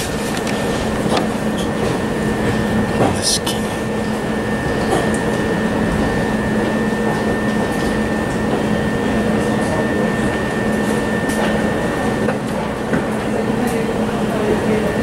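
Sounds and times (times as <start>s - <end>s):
constant high whine: 0.0s - 15.0s
electric train running: 0.0s - 15.0s.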